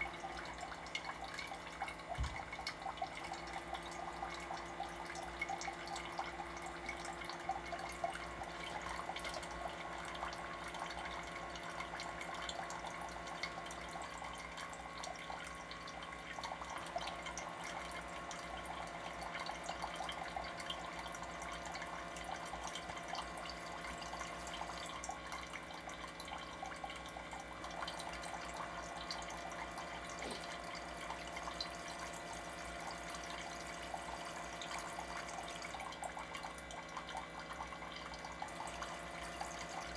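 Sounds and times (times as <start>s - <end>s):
pump hum: 0.0s - 39.9s
water trickling and dripping: 0.0s - 39.9s.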